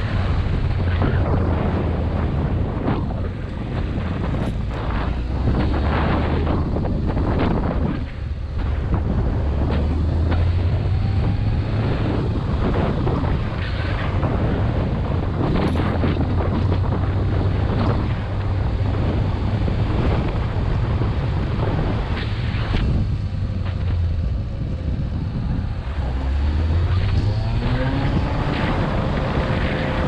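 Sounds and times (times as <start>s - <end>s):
motorcycle engine hum: 0.0s - 30.0s
wind buffeting microphone: 0.0s - 30.0s.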